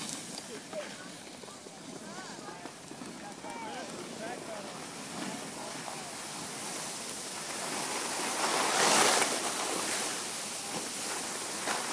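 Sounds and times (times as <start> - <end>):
skis scraping over packed snow: 0.0 - 11.9.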